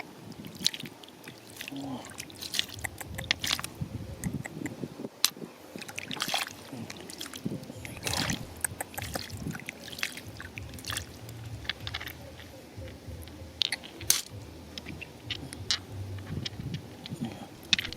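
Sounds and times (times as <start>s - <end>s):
water sloshing and splashing: 0.0s - 3.9s, 5.2s - 17.9s
stones clicking together: 0.6s - 6.6s, 7.9s - 17.9s.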